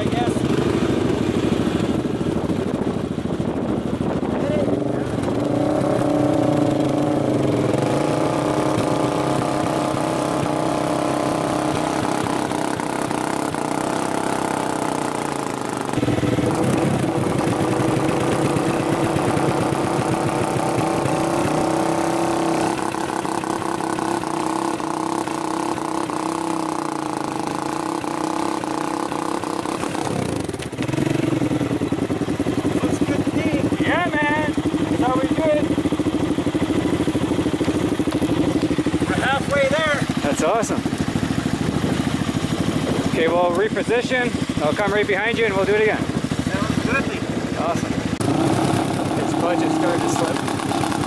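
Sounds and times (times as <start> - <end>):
quad engine running: 0.0 - 51.0.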